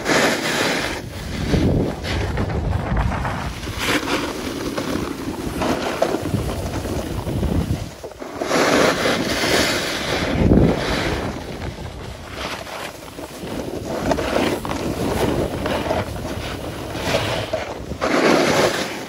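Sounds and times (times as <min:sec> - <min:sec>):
skis scraping over snow: 0:00.0 - 0:19.0
wind over microphone: 0:00.0 - 0:19.0.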